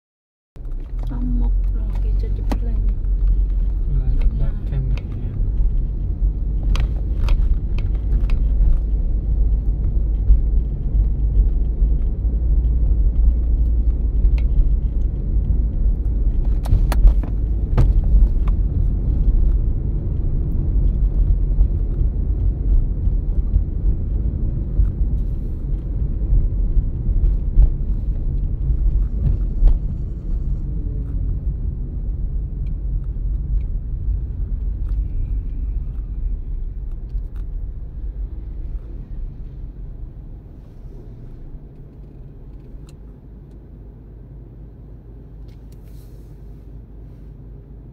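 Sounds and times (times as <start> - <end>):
engine and road noise rumble: 0.6 - 47.9.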